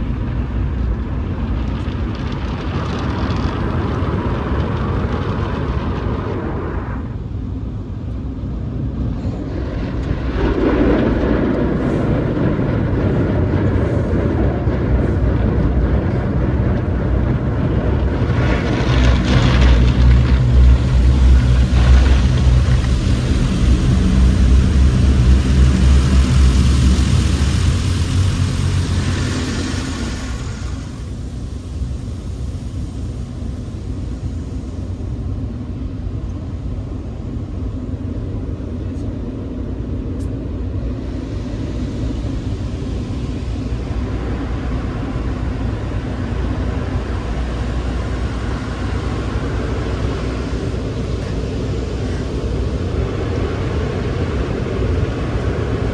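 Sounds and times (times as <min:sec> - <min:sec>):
car wash equipment hissing: 0:00.0 - 0:55.9
low steady rumble: 0:00.0 - 0:55.9.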